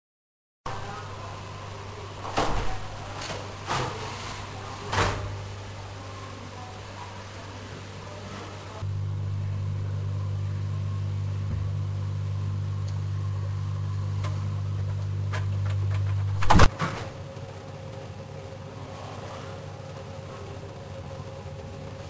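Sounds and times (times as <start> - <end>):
refrigerator humming: 0.7 - 22.0.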